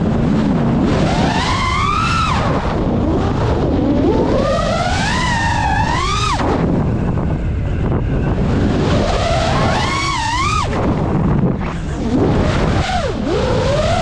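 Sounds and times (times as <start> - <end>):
drone motors whining: 0.0 - 14.0
wind rushing on microphone: 0.0 - 14.0.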